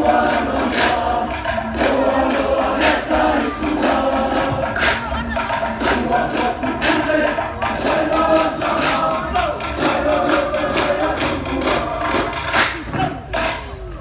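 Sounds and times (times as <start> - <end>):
group singing and chanting: 0.0 - 14.0
sharp percussive strikes: 0.0 - 14.0.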